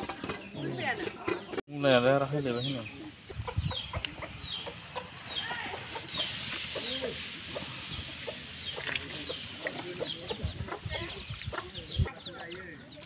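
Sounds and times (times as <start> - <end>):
chickens clucking: 0.0 - 13.0
high peeping calls: 2.3 - 13.0.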